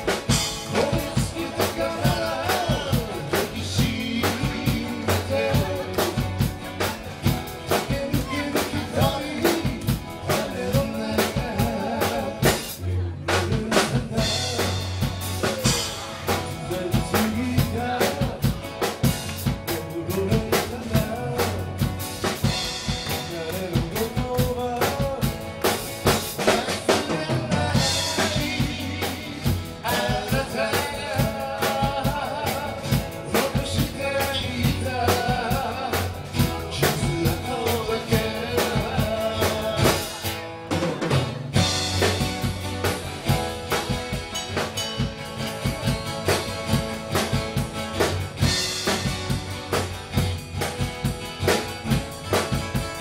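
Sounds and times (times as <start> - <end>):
drum kit beat: 0.0 - 53.0
strummed acoustic guitars: 0.0 - 53.0.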